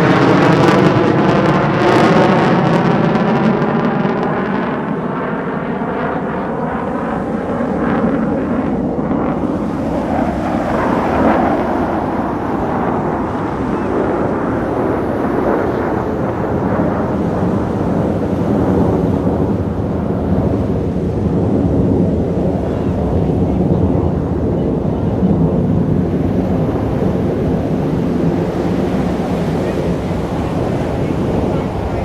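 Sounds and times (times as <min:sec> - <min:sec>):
jet aircraft flying past: 0:00.0 - 0:32.0.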